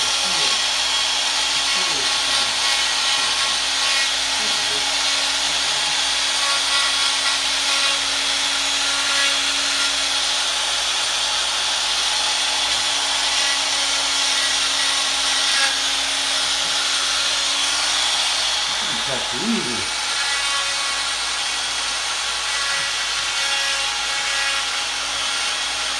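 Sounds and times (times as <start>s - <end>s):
die grinder grinding metal: 0.0s - 25.9s.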